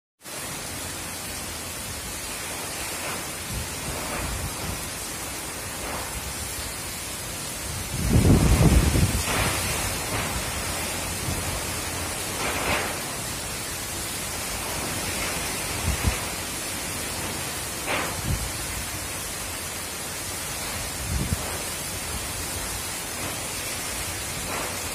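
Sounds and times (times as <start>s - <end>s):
heavy rain: 0.2s - 24.9s
strong wind gusts: 2.8s - 13.6s, 14.3s - 24.8s.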